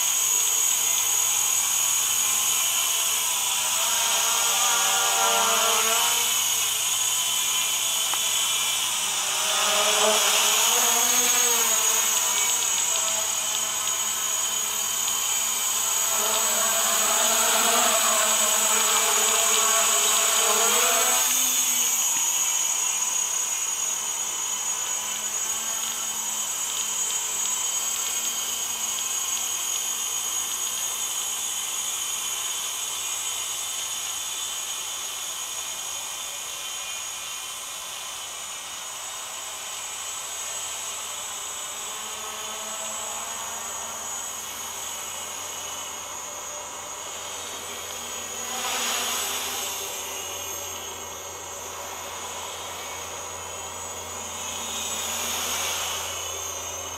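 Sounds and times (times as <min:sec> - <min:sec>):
quadcopter propellers whirring: 0:00.0 - 0:56.9.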